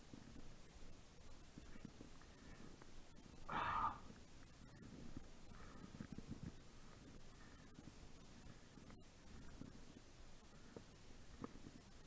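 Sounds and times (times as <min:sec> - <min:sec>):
faint low background rumble: 0:00.0 - 0:12.0.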